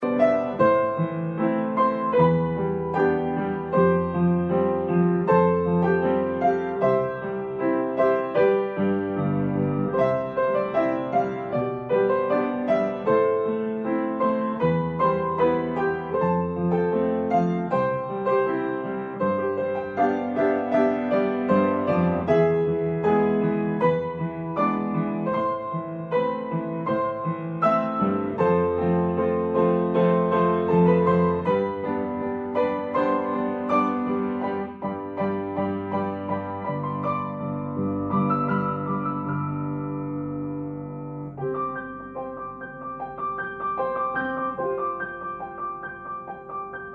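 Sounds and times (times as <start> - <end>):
piano music: 0.0 - 46.9.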